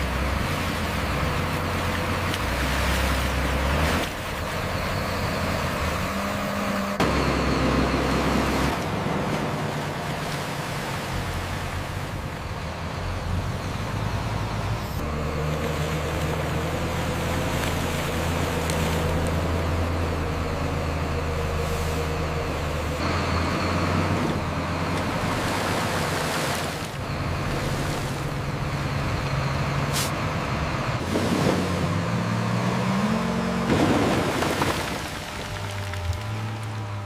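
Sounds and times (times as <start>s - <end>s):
heavy truck engine running: 0.0s - 37.0s.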